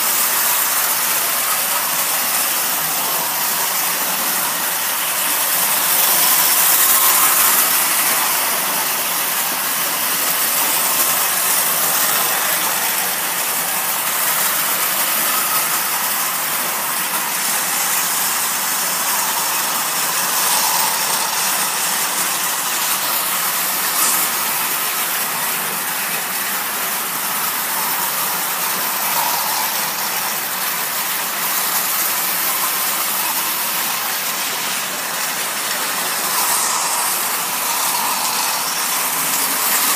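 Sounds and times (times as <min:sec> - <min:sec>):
toy trains rattling on metal track: 0:00.0 - 0:39.9.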